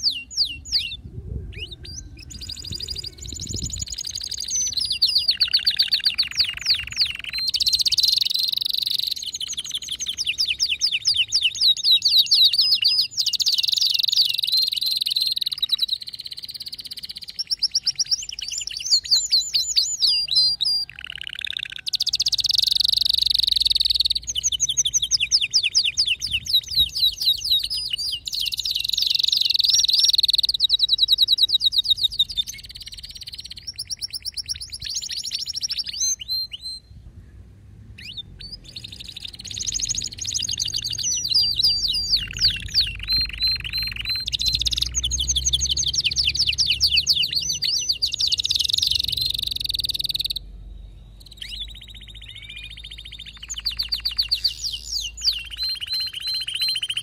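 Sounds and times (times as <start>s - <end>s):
canary singing trills: 0.0s - 37.3s, 37.9s - 57.0s.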